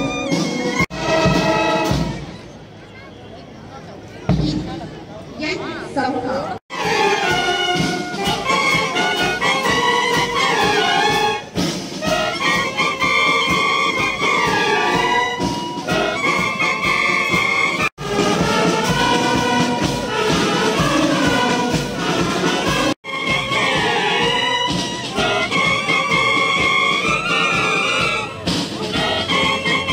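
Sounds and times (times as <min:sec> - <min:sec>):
wind band playing: 0:00.0 - 0:03.4, 0:06.6 - 0:29.9.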